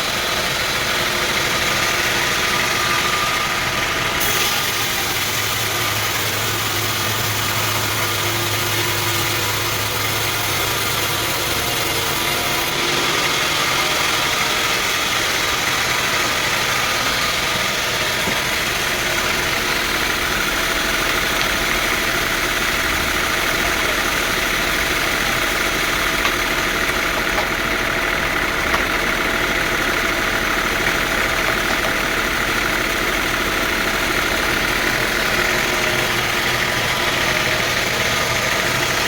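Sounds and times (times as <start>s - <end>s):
sawmill motor drone: 0.0s - 39.0s.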